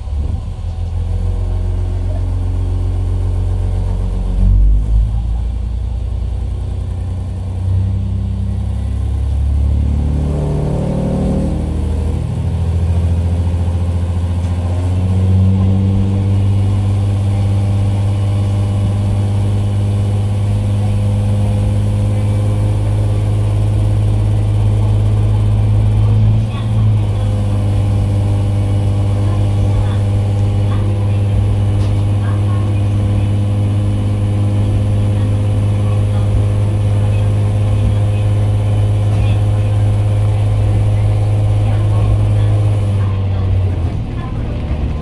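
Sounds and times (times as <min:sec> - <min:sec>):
railcar diesel engine accelerating: 0:00.0 - 0:45.0.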